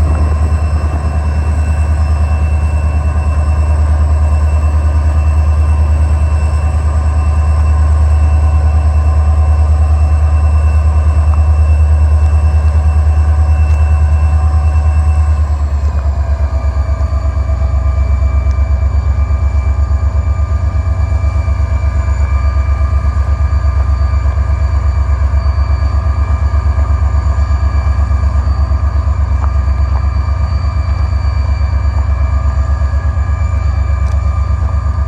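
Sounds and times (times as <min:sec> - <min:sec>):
diesel locomotive engine throbbing: 0:00.0 - 0:35.0.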